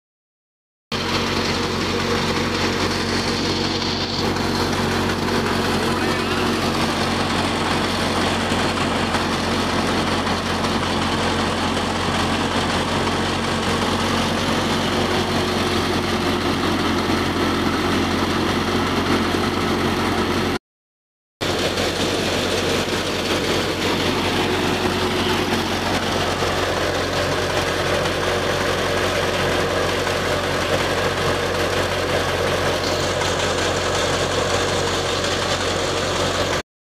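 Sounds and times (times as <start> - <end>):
thresher machine droning: 0.9 - 20.6, 21.4 - 36.6.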